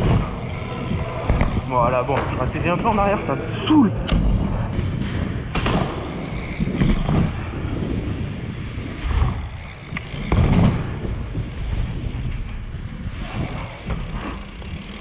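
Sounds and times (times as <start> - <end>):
bike thumping on ramp: 0.0 - 3.0, 4.0 - 15.0
bike tyres rumbling on ramps: 0.0 - 15.0
wind buffeting microphone: 0.0 - 15.0.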